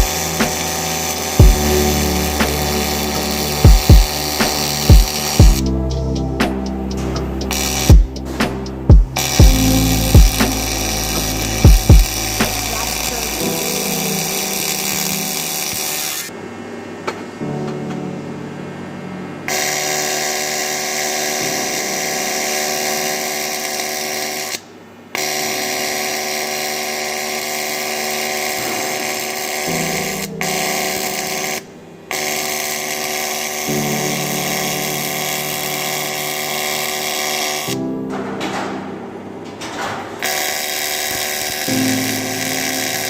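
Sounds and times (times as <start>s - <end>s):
welding arc buzzing hiss: 0.0s - 16.3s, 19.5s - 43.0s.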